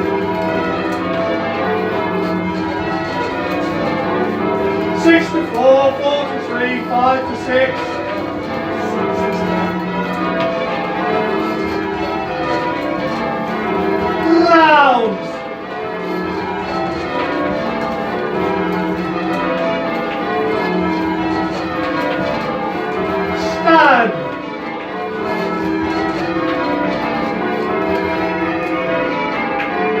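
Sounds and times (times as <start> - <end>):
church bells ringing changes: 0.0 - 30.0.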